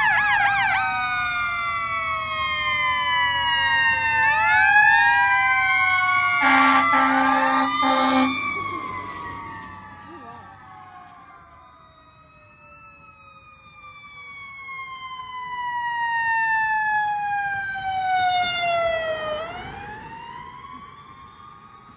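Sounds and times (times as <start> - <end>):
emergency vehicle siren wailing: 0.0 - 21.9.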